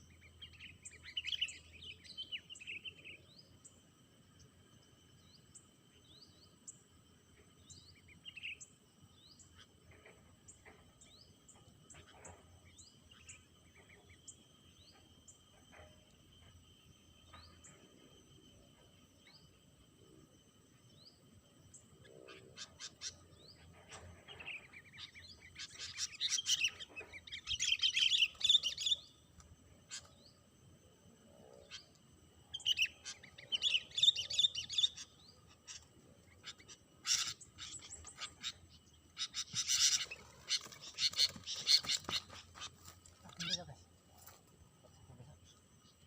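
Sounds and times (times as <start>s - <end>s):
high insect buzz: 0.0s - 46.0s.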